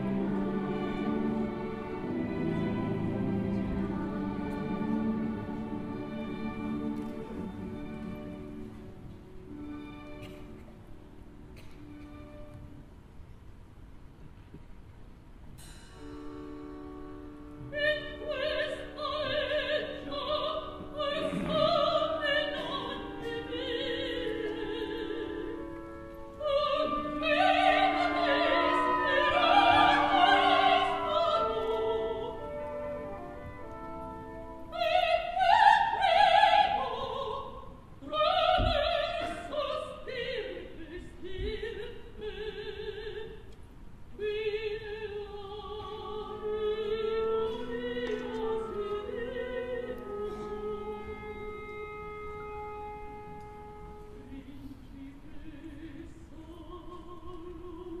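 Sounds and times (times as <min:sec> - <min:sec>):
soprano singing operatic aria: 0:00.0 - 0:12.8, 0:16.7 - 0:58.0
orchestral accompaniment: 0:00.0 - 0:13.0, 0:15.6 - 0:41.1, 0:45.1 - 0:56.9.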